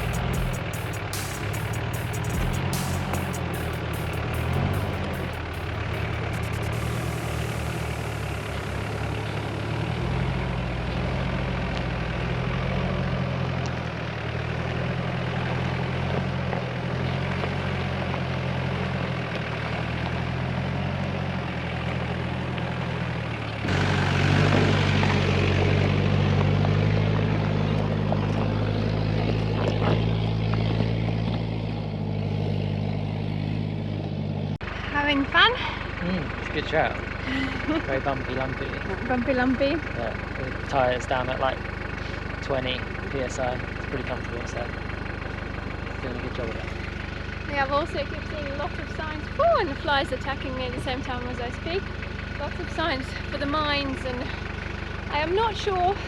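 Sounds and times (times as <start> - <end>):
vehicle engine: 0.0 - 56.0
tyres rumbling on dirt trail: 1.8 - 56.0.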